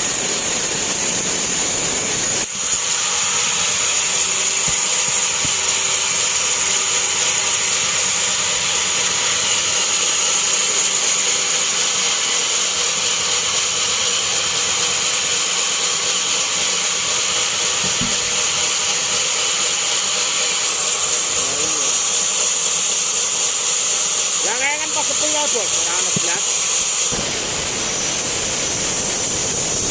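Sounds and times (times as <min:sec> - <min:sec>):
bandsaw running with hiss: 0:00.0 - 0:29.9.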